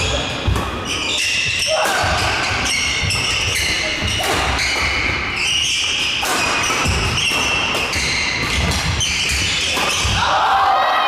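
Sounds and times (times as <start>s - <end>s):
court shoes squeaking on floor: 0.0s - 10.3s.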